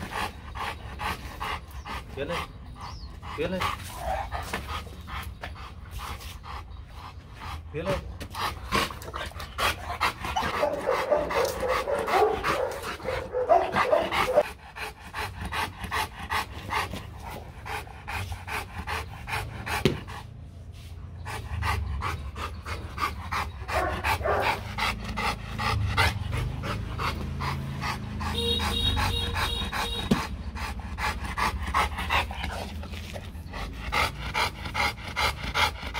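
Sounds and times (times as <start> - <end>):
dog panting: 0.0 - 35.9.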